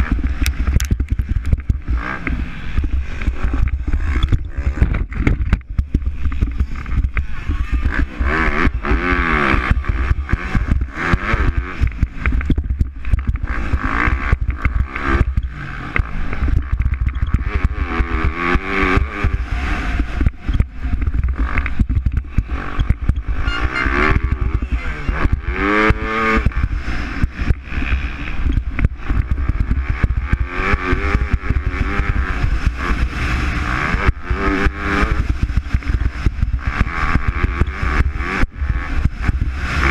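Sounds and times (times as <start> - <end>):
constant low rumble: 0.0 - 39.9
motocross bike engines revving: 0.0 - 39.9.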